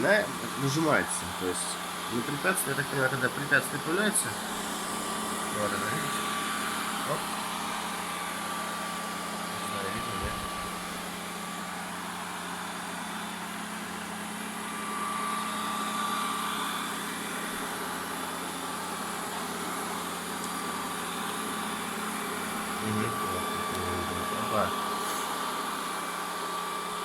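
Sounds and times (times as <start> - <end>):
robot vacuum cleaner humming: 0.0 - 27.0.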